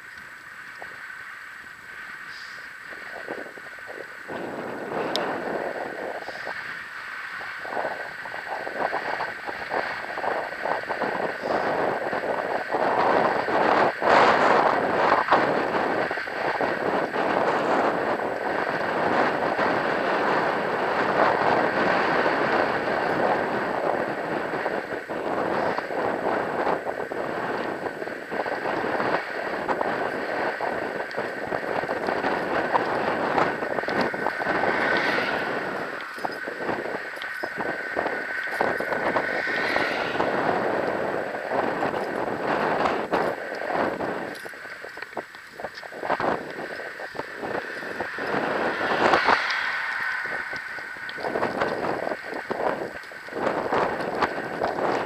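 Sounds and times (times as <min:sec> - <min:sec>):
thin steady whine: 0:00.0 - 0:55.0
wheels rolling over asphalt: 0:00.0 - 0:55.0
wind buffeting microphone: 0:00.0 - 0:55.0.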